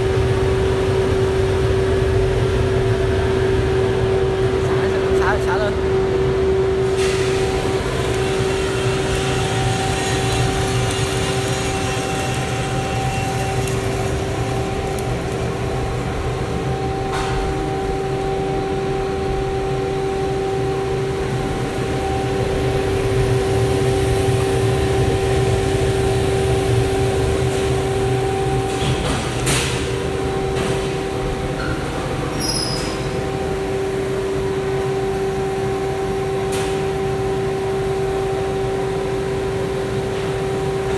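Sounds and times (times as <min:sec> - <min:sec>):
coffee roaster motors humming: 0:00.0 - 0:40.9.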